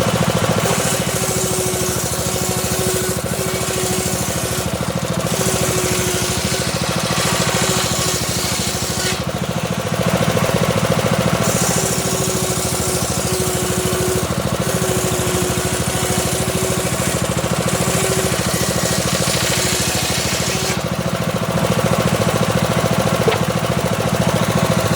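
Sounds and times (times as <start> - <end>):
circular saw motor running: 0.0 - 24.9
saw blade cutting log: 0.0 - 24.9.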